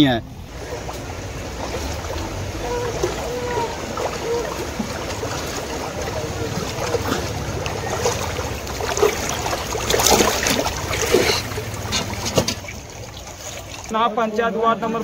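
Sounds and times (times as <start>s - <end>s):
loud water splashes: 0.0s - 14.0s
people wading through water: 0.0s - 15.0s.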